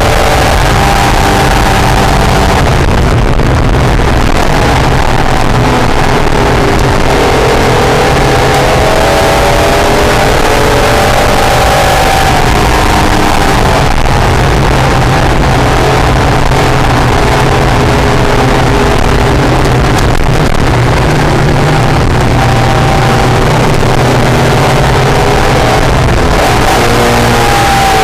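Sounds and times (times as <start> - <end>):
car engine running hard: 0.0 - 28.0
road and wind noise: 0.0 - 28.0.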